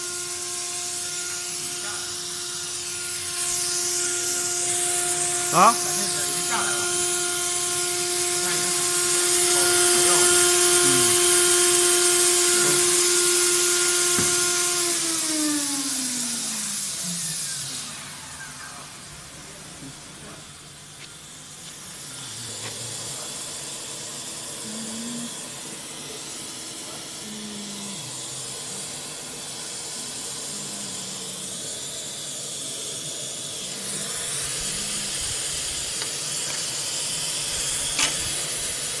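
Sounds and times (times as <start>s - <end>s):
mist cooling spray hiss: 0.0s - 39.0s.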